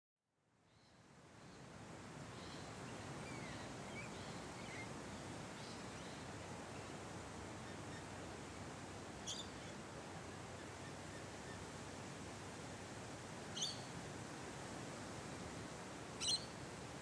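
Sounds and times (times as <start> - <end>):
steady background hiss: 0.5 - 17.0.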